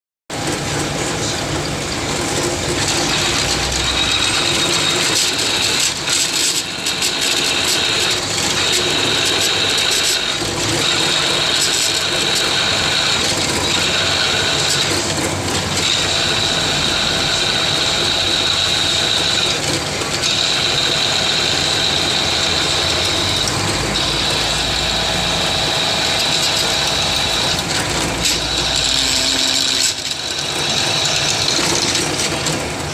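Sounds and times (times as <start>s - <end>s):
power drill motor running: 1.9s - 32.9s
drill bit squealing on metal: 2.9s - 15.0s, 15.7s - 19.6s, 20.2s - 32.0s.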